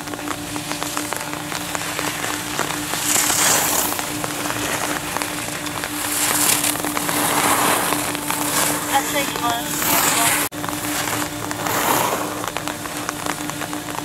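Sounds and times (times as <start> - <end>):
rain pattering: 0.0 - 14.0
skis carving wet snow: 0.0 - 14.0
steady low hum: 0.0 - 14.0.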